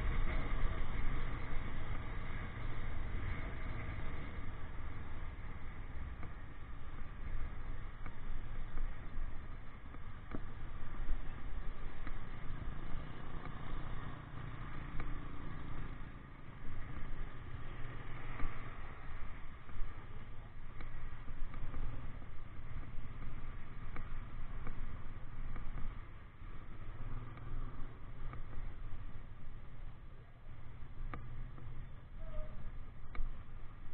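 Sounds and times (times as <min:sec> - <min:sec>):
motorcycle engine rumble: 0:00.0 - 0:33.9.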